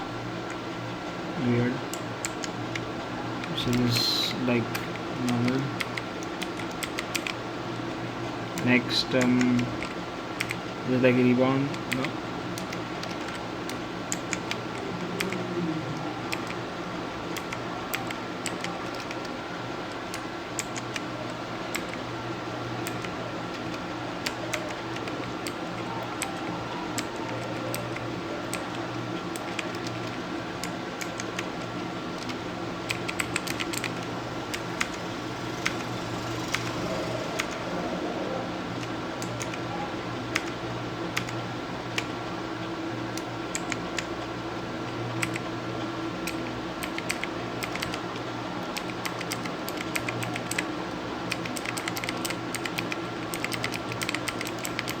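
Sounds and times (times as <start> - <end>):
faint hum: 0.0 - 55.0
mechanical keyboard keys clicking: 1.9 - 7.4, 8.5 - 15.5, 16.2 - 16.6, 17.3 - 22.1, 22.8 - 41.4, 43.1 - 44.1, 45.2 - 45.5, 46.2 - 55.0.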